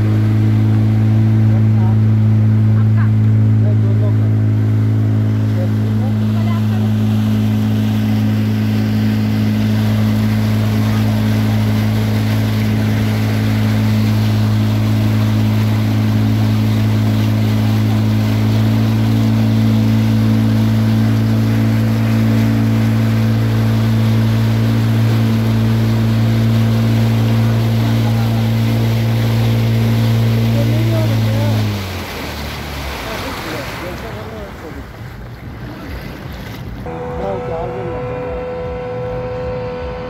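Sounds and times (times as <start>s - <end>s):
motorboat engine droning: 0.0s - 40.0s
wake splashing along hull: 0.0s - 40.0s.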